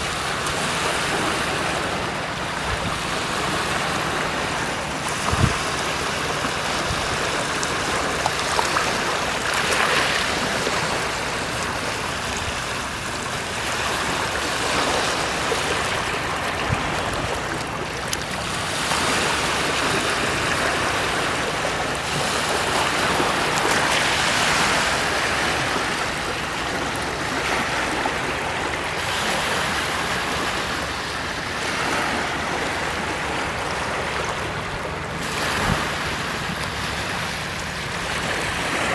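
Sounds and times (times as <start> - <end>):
waves breaking: 0.0 - 38.9.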